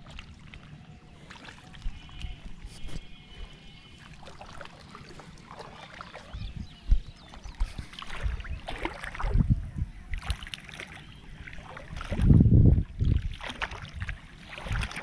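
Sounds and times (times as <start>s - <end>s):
muddy water sloshing: 0.0s - 15.0s.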